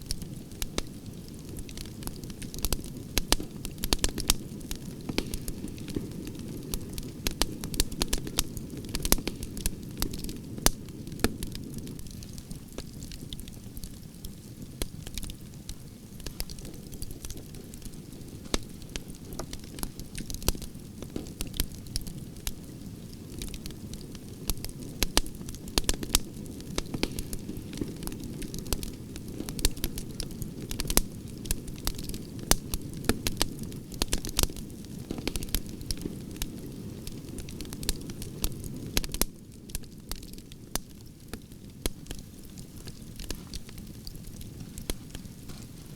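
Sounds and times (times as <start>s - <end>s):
low rush of flames: 0.0s - 45.9s
wood fire crackling and popping: 0.0s - 45.9s.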